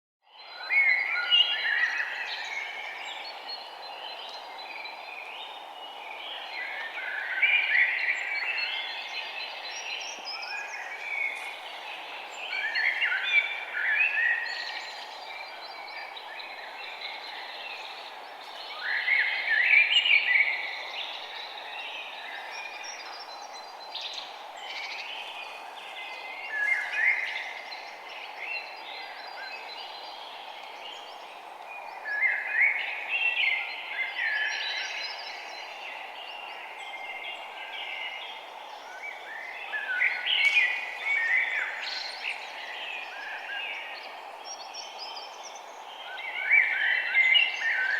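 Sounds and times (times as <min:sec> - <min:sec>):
songbirds chirping: 0:00.2 - 0:47.9.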